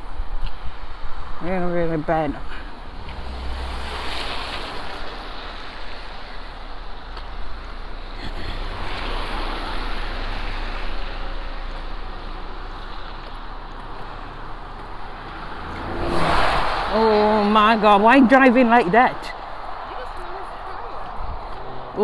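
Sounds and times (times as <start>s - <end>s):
road traffic rushing: 0.0s - 22.0s.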